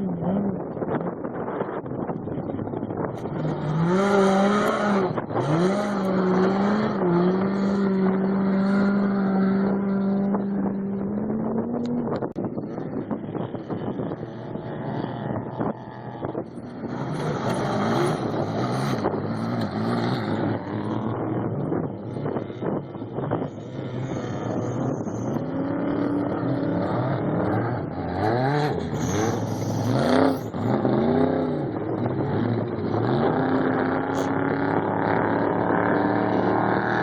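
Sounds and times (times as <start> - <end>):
race vehicle engines passing: 2.8 - 37.0.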